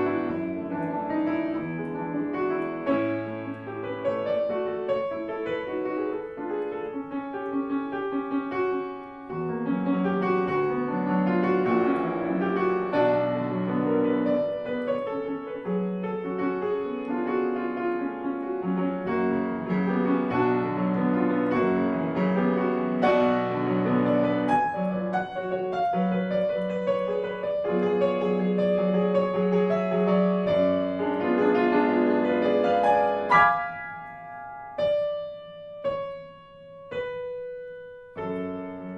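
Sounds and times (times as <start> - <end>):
grand piano classical piece: 0.0 - 38.9.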